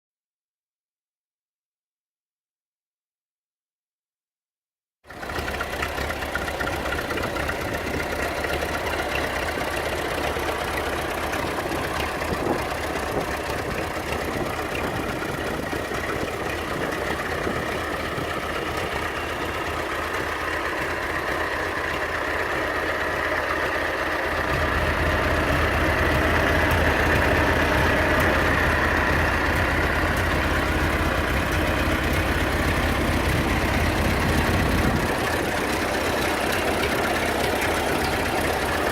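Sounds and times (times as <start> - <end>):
tractor engine running: 5.1 - 38.9.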